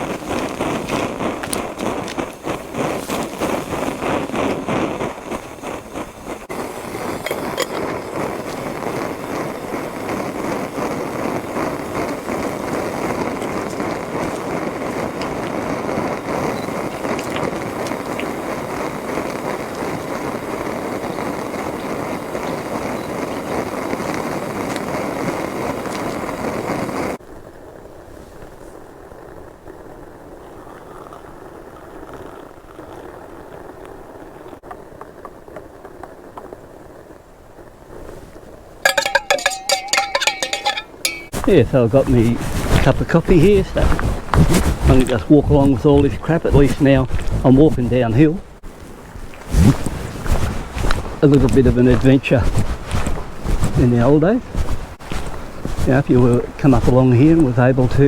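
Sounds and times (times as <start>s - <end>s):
camp stove flame rushing: 0.0s - 58.0s.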